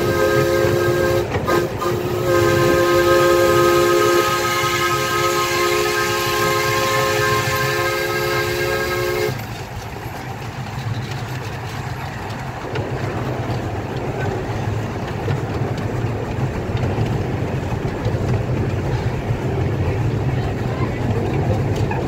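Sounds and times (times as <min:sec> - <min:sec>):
miniature train rumbling on rails: 0:00.0 - 0:22.0.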